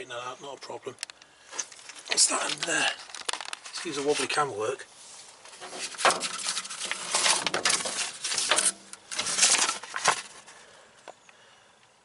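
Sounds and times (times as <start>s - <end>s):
rustling: 1.0s - 10.8s.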